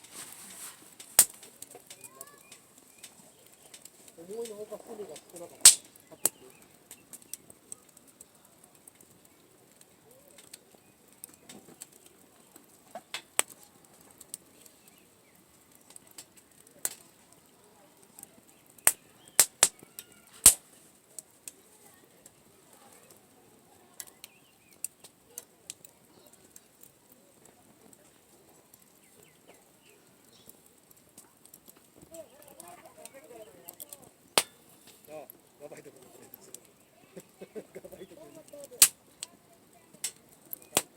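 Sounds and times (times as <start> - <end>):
bonfire crackling: 0.0 - 40.9
fire popping and snapping: 0.0 - 40.9.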